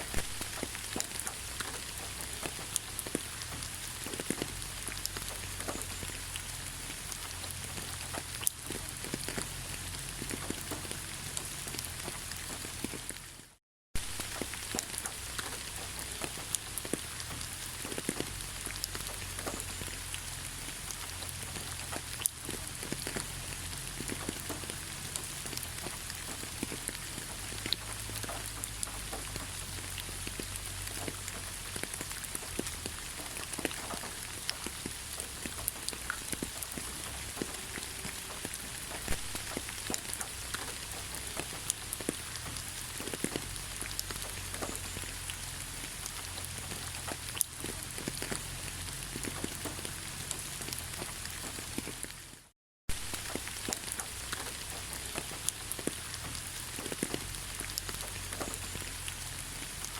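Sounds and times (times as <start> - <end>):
rain drops ticking: 0.0 - 59.9.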